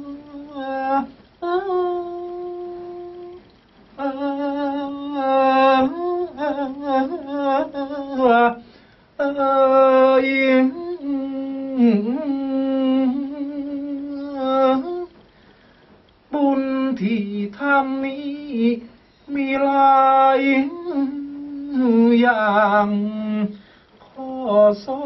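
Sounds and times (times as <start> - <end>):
man chanting with held notes: 0.0 - 15.2, 16.3 - 25.0.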